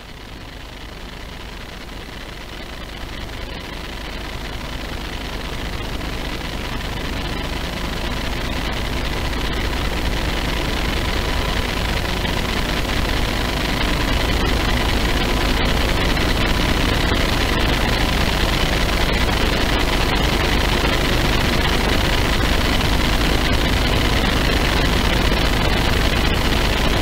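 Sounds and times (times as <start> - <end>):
vehicle engines idling: 2.5 - 27.0.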